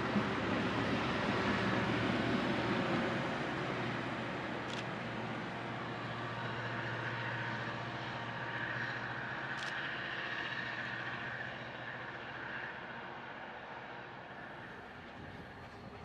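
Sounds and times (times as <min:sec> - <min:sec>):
train rolling along track: 0:00.0 - 0:16.0.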